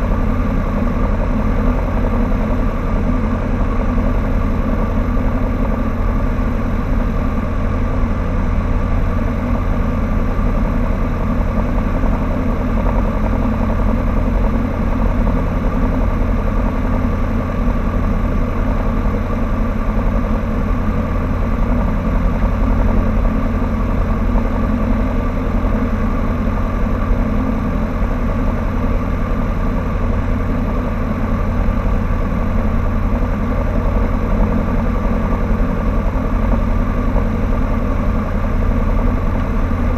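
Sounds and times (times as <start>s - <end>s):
light aircraft engine idling: 0.0s - 39.9s.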